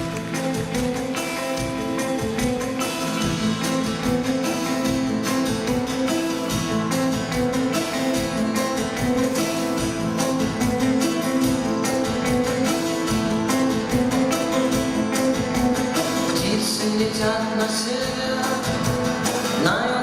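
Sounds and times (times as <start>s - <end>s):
live band playing: 0.0s - 20.0s
strummed guitar: 0.0s - 20.0s.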